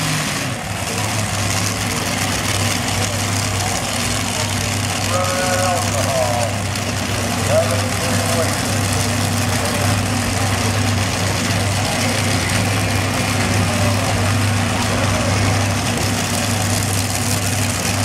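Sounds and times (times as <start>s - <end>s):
tractor engines idling: 0.0s - 18.0s.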